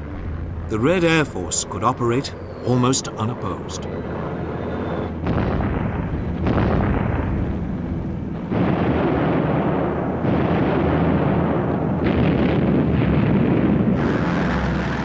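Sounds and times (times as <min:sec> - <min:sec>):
heavy rumbling explosions: 0:02.8 - 0:15.0.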